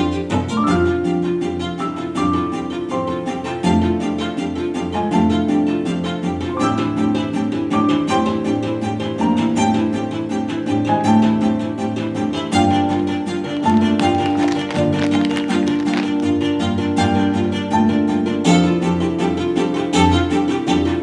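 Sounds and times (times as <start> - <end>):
string music over a beat: 0.0 - 21.0.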